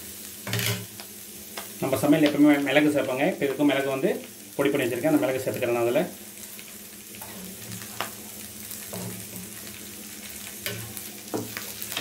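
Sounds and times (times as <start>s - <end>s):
leaves sizzling in oil: 0.0s - 12.0s.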